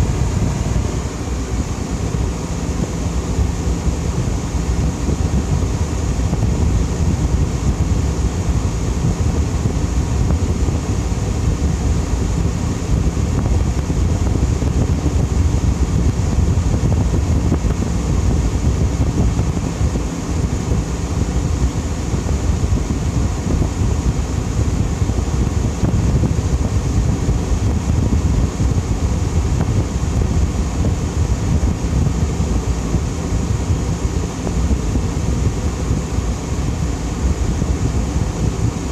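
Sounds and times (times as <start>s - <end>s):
air conditioner blowing air: 0.0s - 38.9s.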